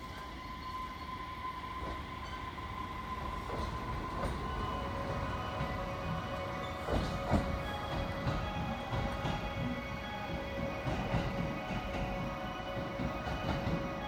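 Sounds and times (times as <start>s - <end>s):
steady high tone: 0.0s - 14.0s
train low rumble: 0.0s - 14.0s.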